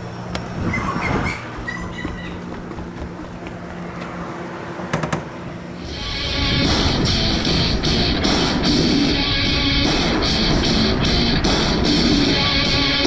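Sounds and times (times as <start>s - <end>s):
vehicle humming: 0.0s - 13.0s.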